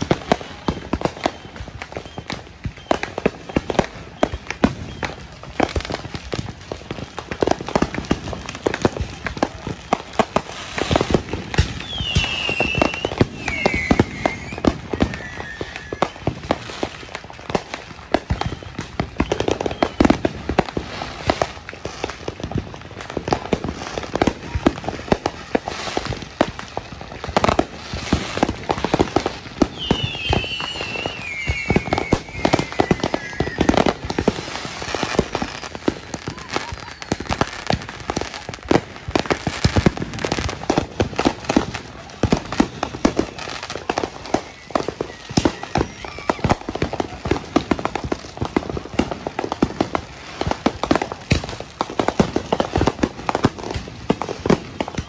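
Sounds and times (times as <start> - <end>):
falling firework whistle: 0.0 - 55.0
fireworks crackling and banging: 0.0 - 55.0.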